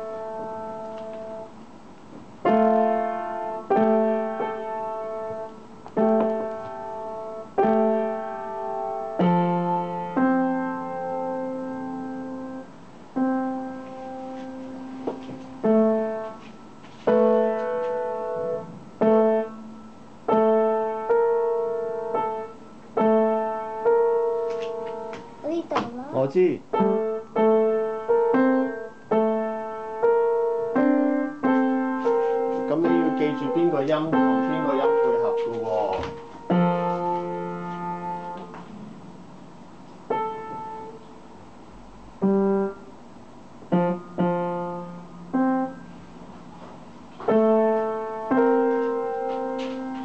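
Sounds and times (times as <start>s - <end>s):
upright piano played slowly: 0.0s - 50.0s.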